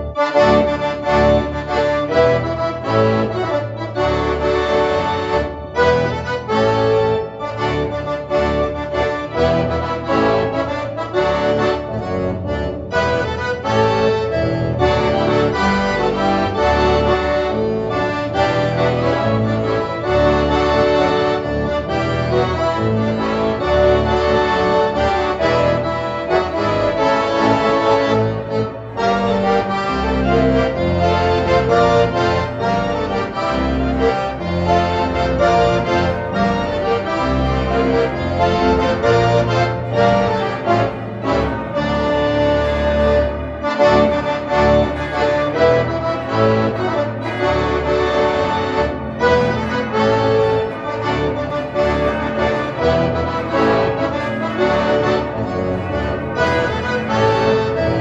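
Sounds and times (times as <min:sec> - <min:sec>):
electronic accordion playing a hymn: 0:00.0 - 0:58.0.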